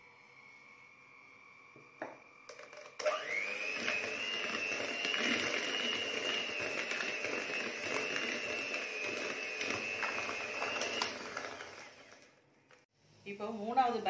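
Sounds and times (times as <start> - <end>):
electric hand mixer whine: 0.0 - 12.6.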